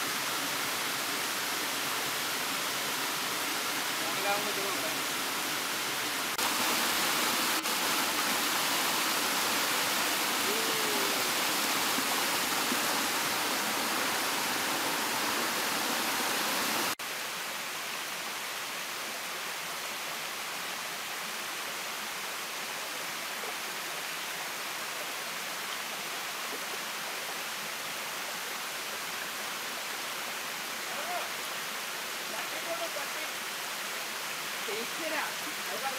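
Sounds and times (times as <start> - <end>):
shallow rocky stream: 0.0 - 35.9
waterfall over rocks: 0.0 - 35.9.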